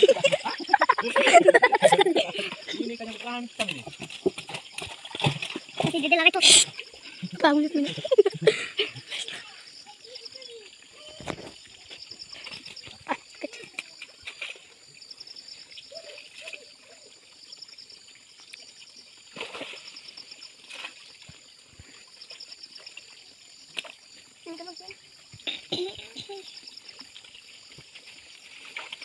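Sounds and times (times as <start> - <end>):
water splashing and sloshing: 0.0 - 29.0.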